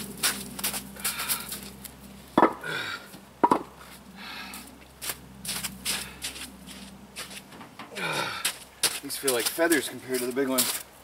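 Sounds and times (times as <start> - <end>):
footsteps: 0.0 - 10.9.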